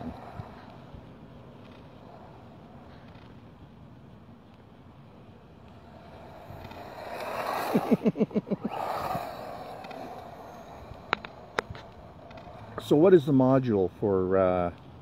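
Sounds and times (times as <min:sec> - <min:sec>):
rapid pulsing tones: 0:00.0 - 0:14.2
rc car tyre and motor noise: 0:00.0 - 0:15.0.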